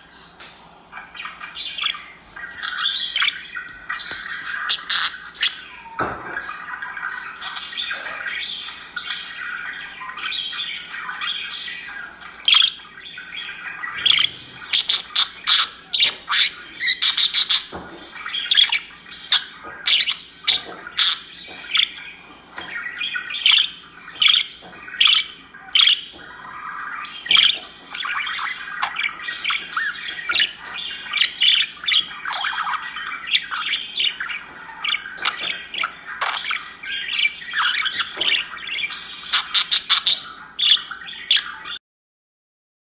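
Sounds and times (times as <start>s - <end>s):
budgerigar squawking and chattering: 1.0s - 41.8s.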